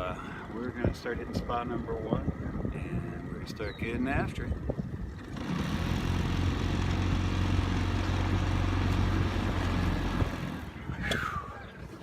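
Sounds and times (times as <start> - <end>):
boat motor running: 0.4 - 11.0.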